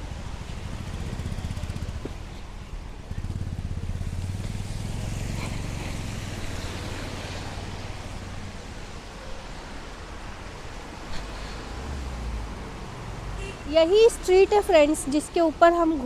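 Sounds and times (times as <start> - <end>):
car passing on wet road: 0.0 - 16.0
motorcycle passing: 0.0 - 16.0.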